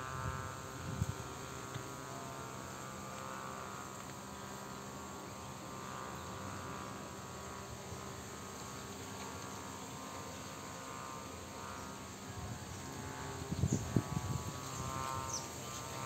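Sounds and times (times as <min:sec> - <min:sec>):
high hum: 0:00.0 - 0:16.0.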